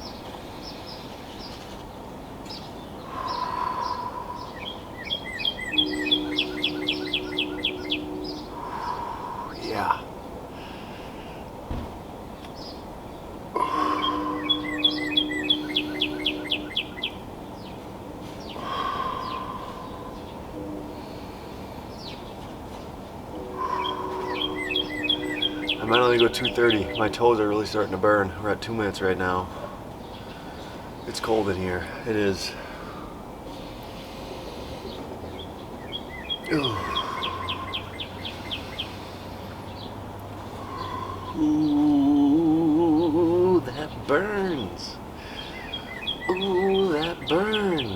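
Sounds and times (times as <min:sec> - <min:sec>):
songbird singing down-slurred notes: 0:00.0 - 0:10.5, 0:11.4 - 0:47.9
steady background hiss: 0:00.0 - 0:47.9
lower longer bird call: 0:03.0 - 0:11.5, 0:13.5 - 0:22.4, 0:23.3 - 0:28.4, 0:29.4 - 0:47.9.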